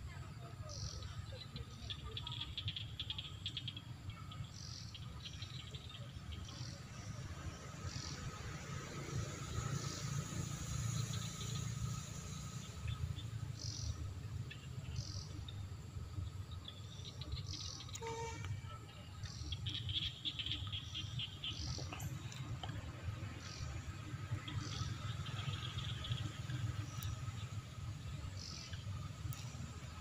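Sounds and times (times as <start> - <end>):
faint steady insect tone: 0.0 - 30.0.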